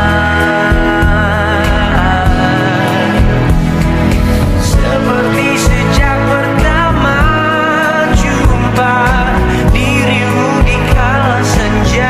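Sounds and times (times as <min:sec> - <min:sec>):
pop song with wavering vocal: 0:00.0 - 0:12.0.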